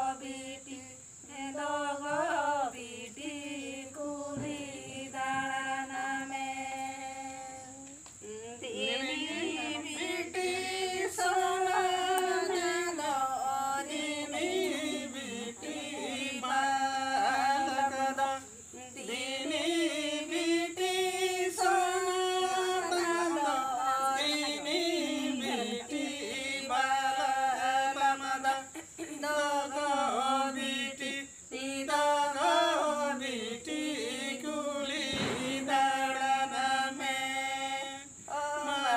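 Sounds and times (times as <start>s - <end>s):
group singing unaccompanied: 0.0s - 38.9s.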